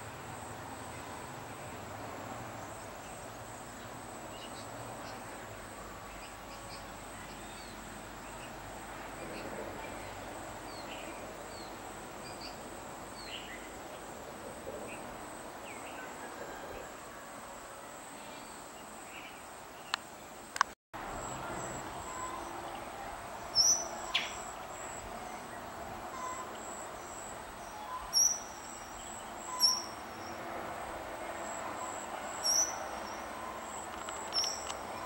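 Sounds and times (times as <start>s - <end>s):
insect trill: 1.7s - 35.0s.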